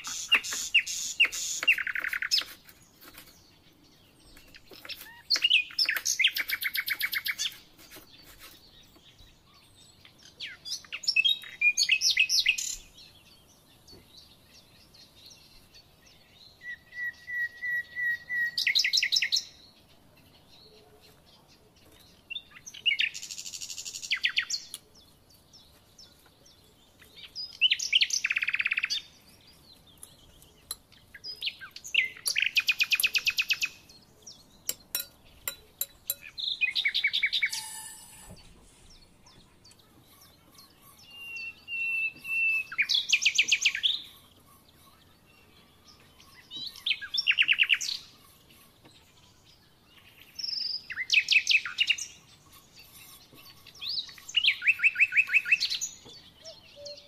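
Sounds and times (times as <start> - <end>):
songbird chirps and trills: 0.0 - 57.0.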